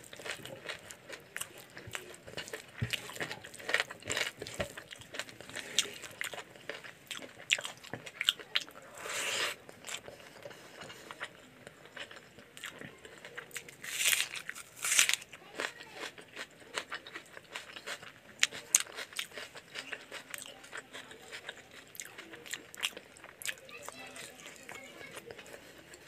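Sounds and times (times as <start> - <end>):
fingers squishing rice: 0.0 - 12.8, 13.4 - 25.2.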